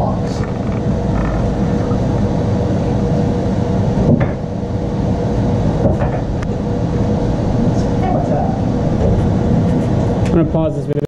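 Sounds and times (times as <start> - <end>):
low rumble: 0.0 - 10.2
faint steady hum: 0.0 - 11.0.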